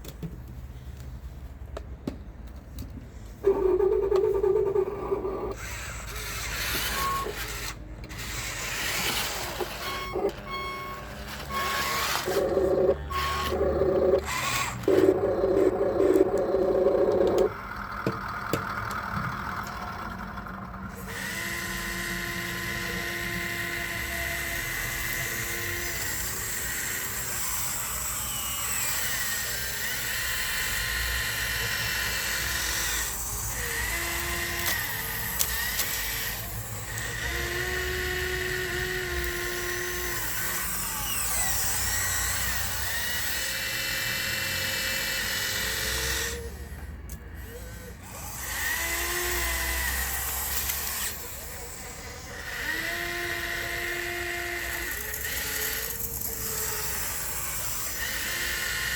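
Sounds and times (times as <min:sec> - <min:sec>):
small electric motors whining: 0:03.1 - 0:58.9.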